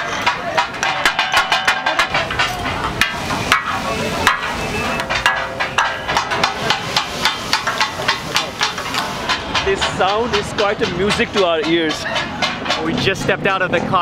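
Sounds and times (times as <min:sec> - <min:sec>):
metal spatulas clanking on griddles: 0:00.0 - 0:13.4.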